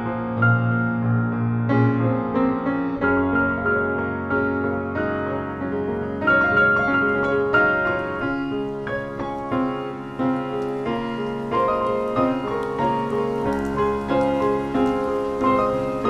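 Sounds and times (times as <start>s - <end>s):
piano duet: 0.0s - 16.0s.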